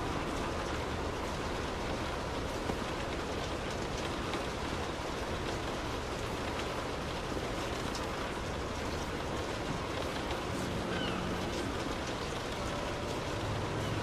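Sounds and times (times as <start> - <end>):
raindrops ticking on car: 0.0 - 14.0
steady rain hiss: 0.0 - 14.0.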